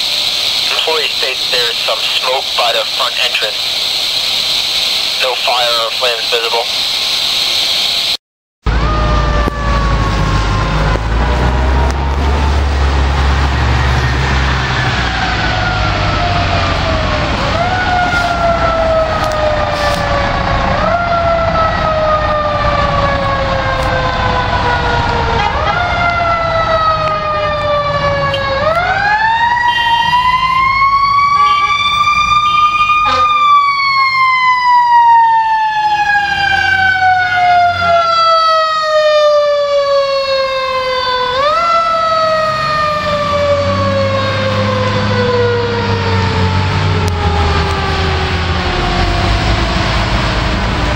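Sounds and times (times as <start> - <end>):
truck engine rumble: 0.0 - 8.0, 8.7 - 50.9
fire engine siren: 0.0 - 50.9.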